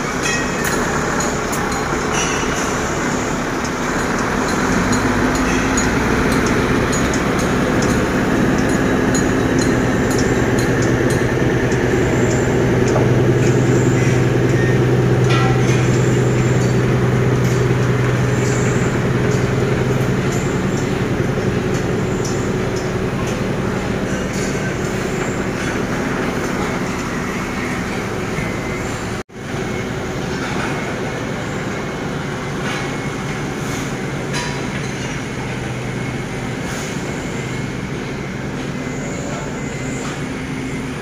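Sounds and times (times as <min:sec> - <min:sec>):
diesel truck engine pulling away: 0:00.0 - 0:34.3.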